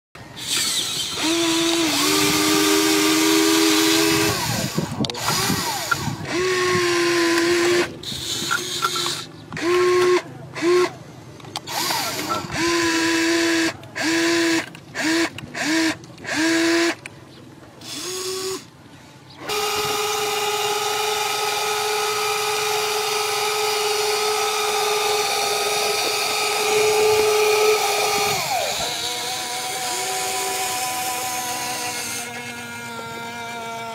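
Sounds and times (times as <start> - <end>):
toy excavator motors whining: 0.2 - 17.1, 17.8 - 18.8, 19.4 - 33.9.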